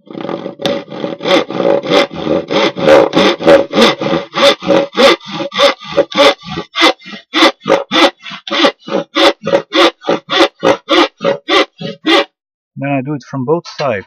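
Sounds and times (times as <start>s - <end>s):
hand saw cutting plywood: 0.0s - 12.3s.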